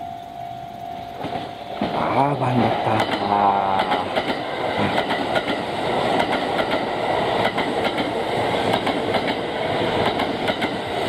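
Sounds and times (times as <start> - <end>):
train rushing rumble: 0.0 - 11.0
wheels clacking over rail joints: 1.2 - 11.0.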